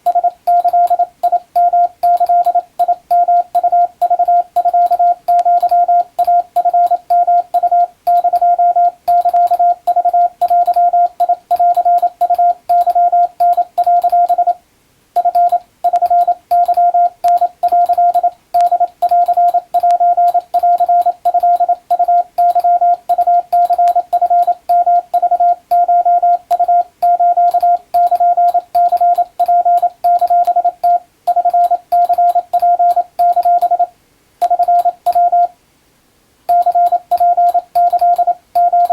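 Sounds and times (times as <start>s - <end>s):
morse code beeps: 0.0s - 14.6s, 15.2s - 35.5s, 36.5s - 38.9s.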